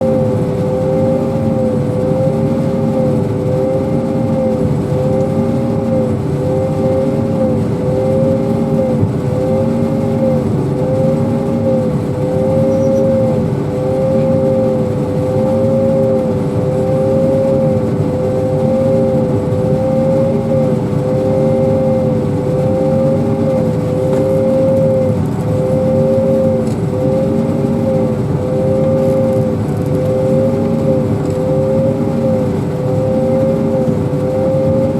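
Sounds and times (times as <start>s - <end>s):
harvesting machine whine: 0.0s - 34.9s.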